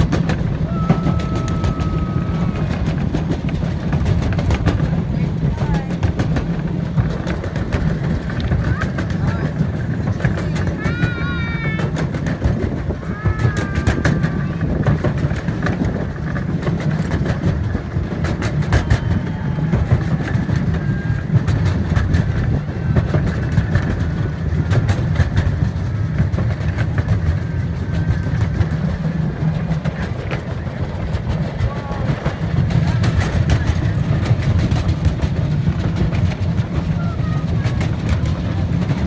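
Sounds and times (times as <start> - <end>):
miniature train rumbling: 0.0 - 39.0
wheels clicking on rails: 0.0 - 39.0.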